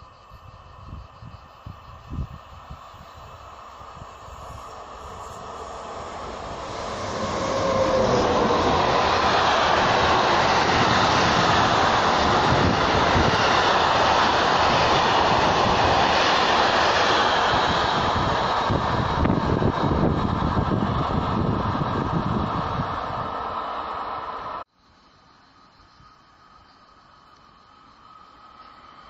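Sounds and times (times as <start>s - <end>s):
freight train wheels on rails: 0.0s - 24.7s.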